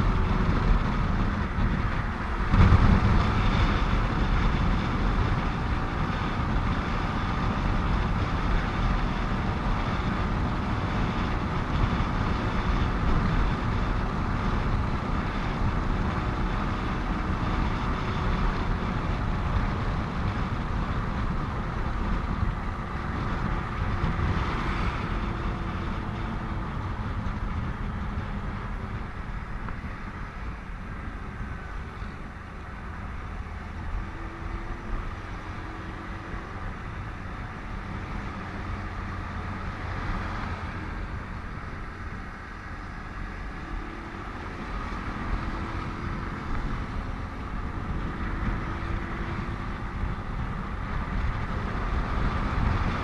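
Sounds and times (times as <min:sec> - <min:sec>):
motorcycle engine hum: 0:00.0 - 0:53.0
passing vehicles: 0:00.0 - 0:53.0
road and wind noise: 0:00.0 - 0:53.0.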